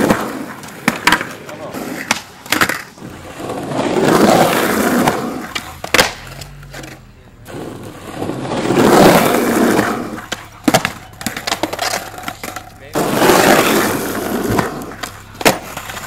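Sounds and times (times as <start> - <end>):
skateboard clack: 0.0 - 16.0
skateboard wheels rolling on asphalt: 0.0 - 16.0.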